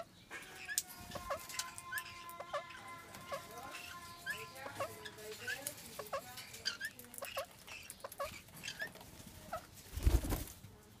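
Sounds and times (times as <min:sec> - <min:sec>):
parakeets clucking chirps: 0:00.0 - 0:10.1.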